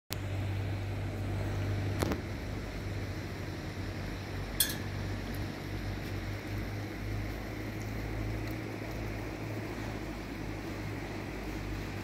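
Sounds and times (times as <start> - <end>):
low outdoor rumble: 0.1 - 12.0.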